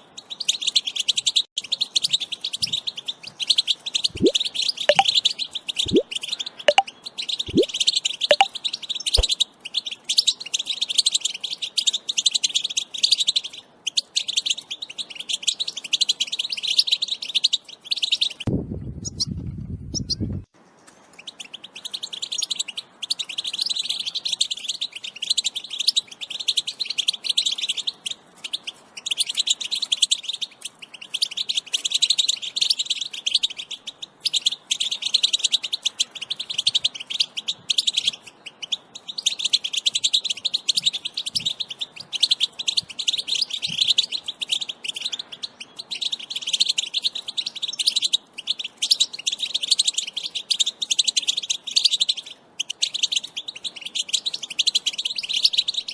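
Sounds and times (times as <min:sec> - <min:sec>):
goldfinch twittering song: 0:00.2 - 0:19.3, 0:21.2 - 0:55.9.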